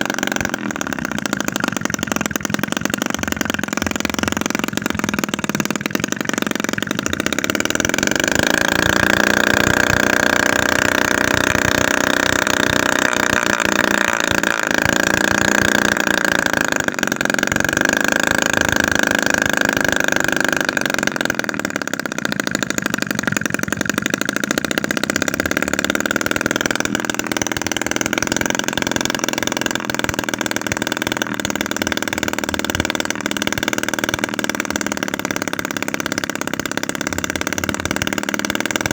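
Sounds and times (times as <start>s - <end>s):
small two-stroke engine buzzing: 0.0s - 38.9s.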